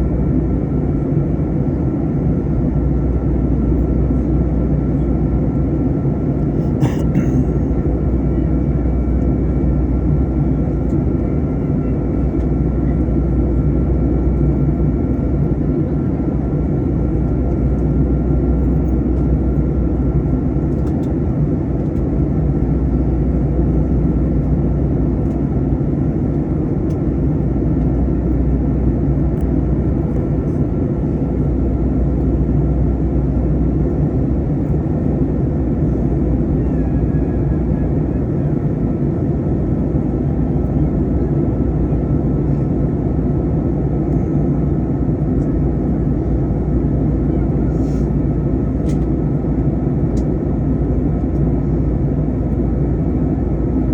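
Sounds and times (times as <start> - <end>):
aircraft cabin engine rumble: 0.0 - 53.9.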